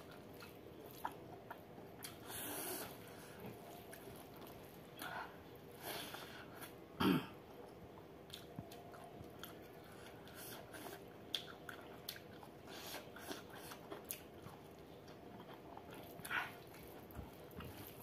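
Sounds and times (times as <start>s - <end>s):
chewing food: 0.0s - 6.8s, 7.5s - 18.0s.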